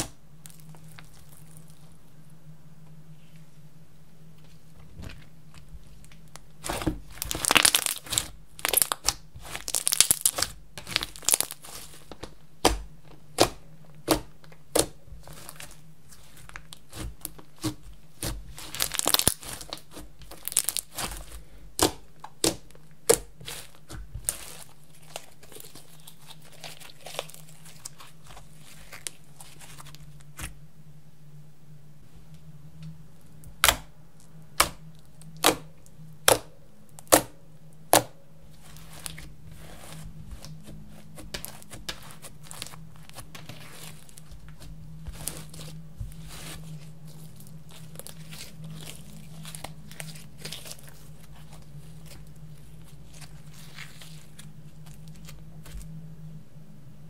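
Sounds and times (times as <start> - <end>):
slime crackling and popping: 6.0 - 30.5, 33.4 - 37.3, 37.9 - 55.9.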